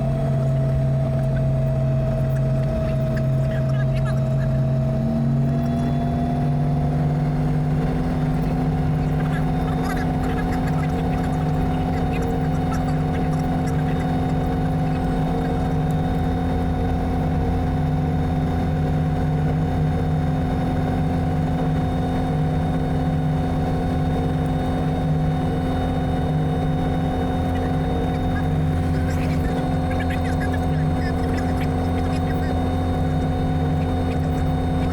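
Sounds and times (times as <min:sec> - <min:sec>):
helicopter engine and rotor droning: 0:00.0 - 0:34.9.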